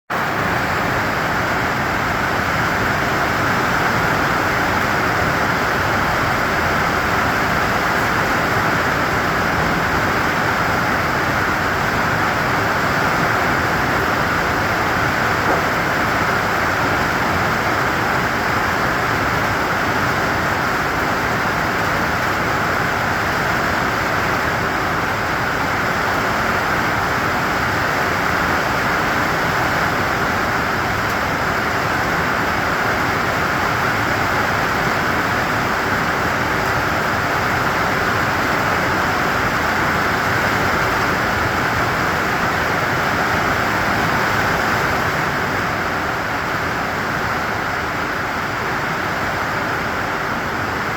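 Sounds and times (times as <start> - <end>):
steady rain hiss: 0.1 - 50.9.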